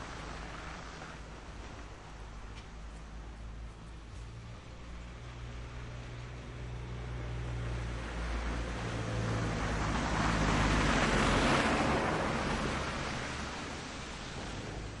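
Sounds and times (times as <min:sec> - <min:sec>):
tyre and road noise: 0:00.0 - 0:15.0.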